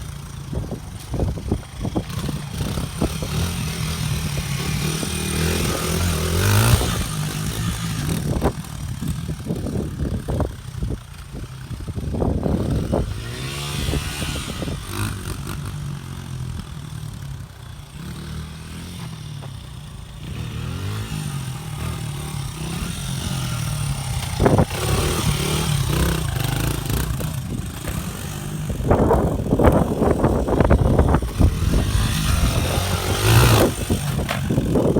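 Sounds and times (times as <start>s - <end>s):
pit bike engine revving: 0.0s - 34.9s.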